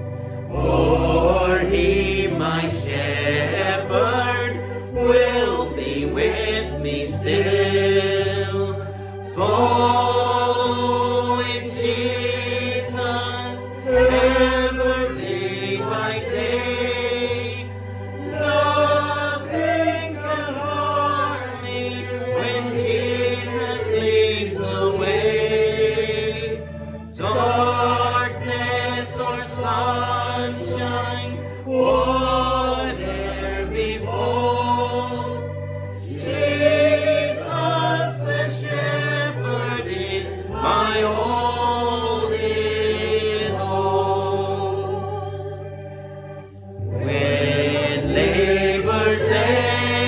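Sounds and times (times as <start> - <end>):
congregation singing a hymn: 0.0 - 50.0
sustained bass notes: 0.0 - 50.0.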